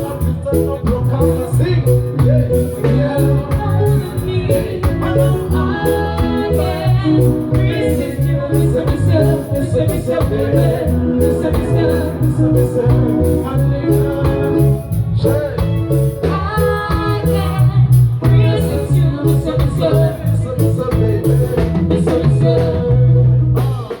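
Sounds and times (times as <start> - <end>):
bass line: 0.0 - 24.0
person singing: 0.0 - 24.0
reggae band playing: 0.0 - 24.0.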